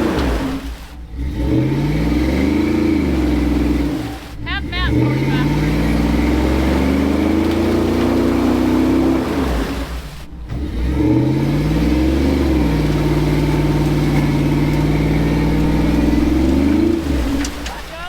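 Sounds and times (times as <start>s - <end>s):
vehicle engine revving: 0.0s - 18.0s.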